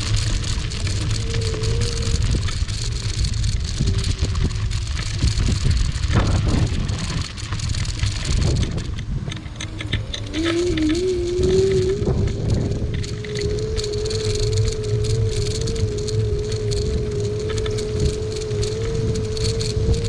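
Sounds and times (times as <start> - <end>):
faint wavering whine: 0.0 - 20.0
scooter tyres rattling over gravel: 0.0 - 20.0
wind rumble on microphone: 0.0 - 20.0.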